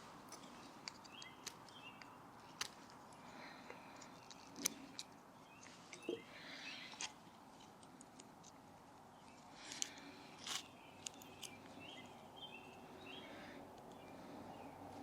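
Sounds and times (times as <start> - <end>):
small sticks clicking and scraping: 0.0 - 12.9.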